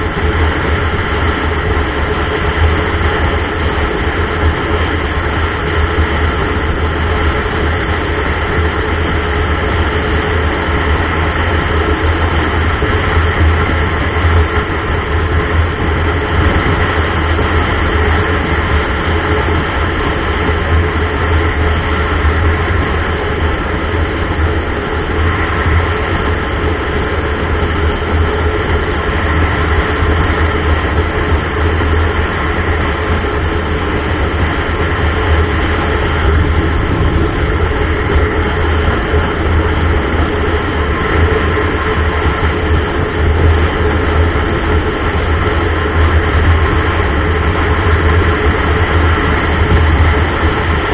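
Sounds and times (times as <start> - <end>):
motorcycle engine and road drone: 0.0 - 50.9.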